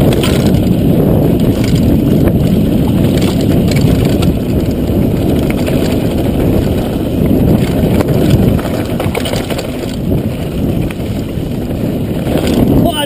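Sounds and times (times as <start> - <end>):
bike clicks and rattles: 0.0 - 13.0
bike tyres on dirt: 0.0 - 13.0
wind buffeting microphone: 0.0 - 13.0.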